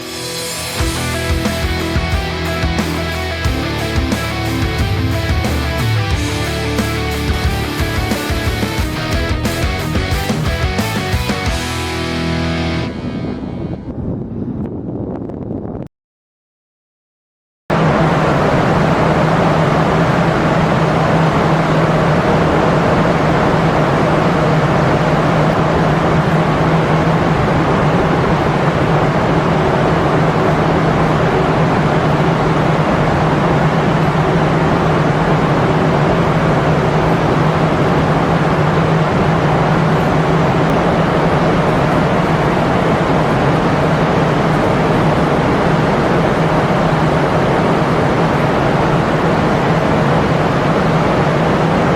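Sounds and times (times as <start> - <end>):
loud machine roar: 0.0 - 14.3, 17.7 - 51.9
constant low hum: 0.0 - 15.8, 17.7 - 51.9.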